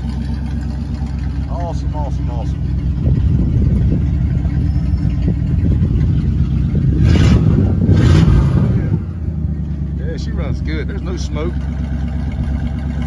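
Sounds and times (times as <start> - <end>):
engine exhaust rumbling: 0.0 - 13.0.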